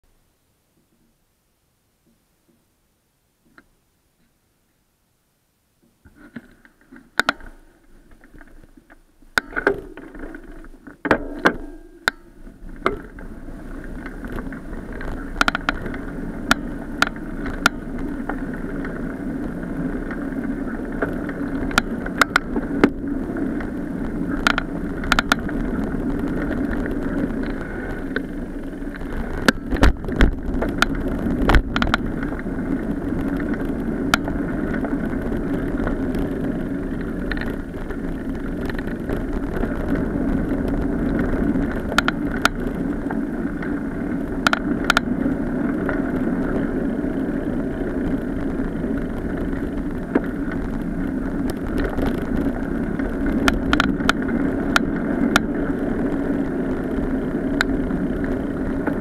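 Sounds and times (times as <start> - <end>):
wind: 0.0 - 59.0
bicycle knocks and rattles: 5.8 - 59.0
tyres rumbling on path: 6.0 - 59.0.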